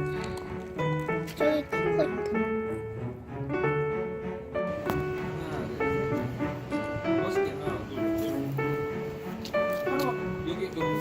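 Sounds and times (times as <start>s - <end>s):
background piano music: 0.0s - 11.0s.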